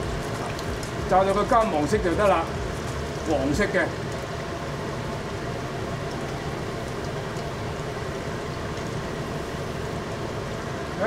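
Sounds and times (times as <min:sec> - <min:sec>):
chicken deep-frying in oil: 0:00.0 - 0:11.0
range hood fan rushing: 0:00.0 - 0:11.0.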